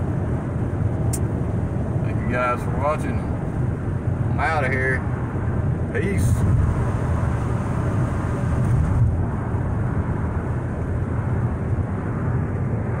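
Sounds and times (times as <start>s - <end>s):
car engine cruising: 0.0s - 13.0s.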